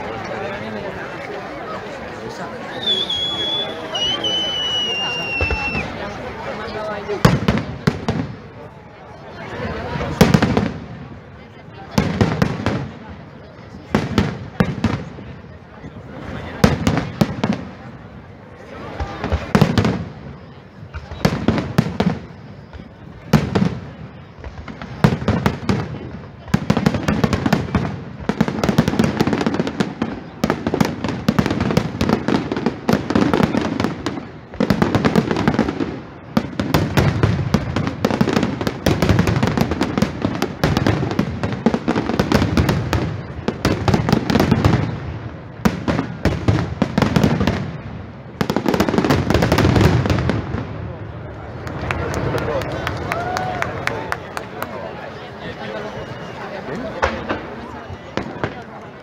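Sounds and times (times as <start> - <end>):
fireworks bursts and booms: 0.0 - 53.2, 55.9 - 59.0
fireworks crackling: 0.0 - 59.0.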